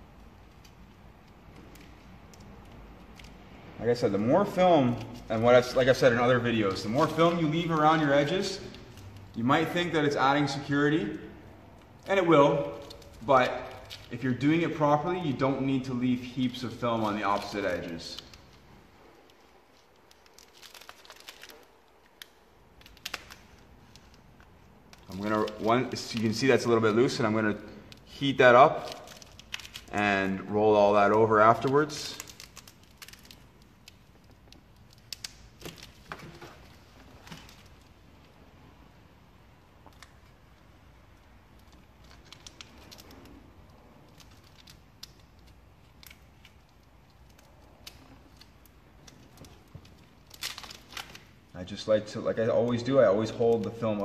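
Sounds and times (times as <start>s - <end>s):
vinyl film crinkling: 0.0s - 54.0s.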